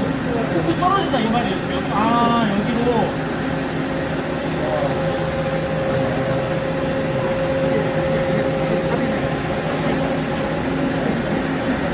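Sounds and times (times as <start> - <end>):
machinery hum and whine: 0.0 - 11.9.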